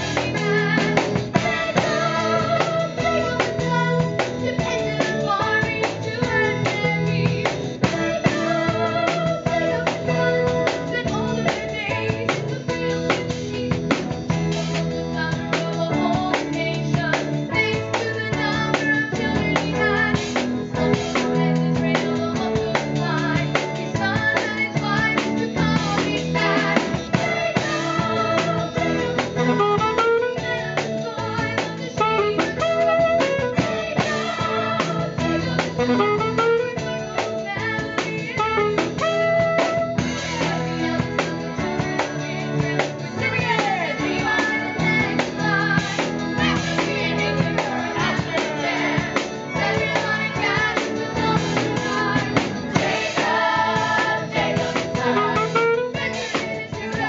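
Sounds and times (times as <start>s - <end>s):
young cast singing together: 0.0s - 13.6s, 15.2s - 39.2s, 40.2s - 57.0s
theatre band playing: 0.0s - 57.0s.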